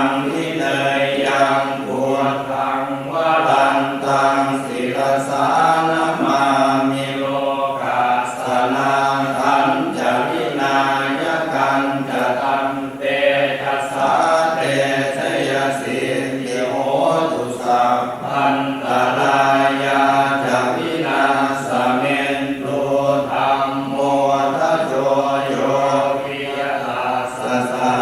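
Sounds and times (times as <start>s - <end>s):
chanting in steady rhythm: 0.0s - 28.0s.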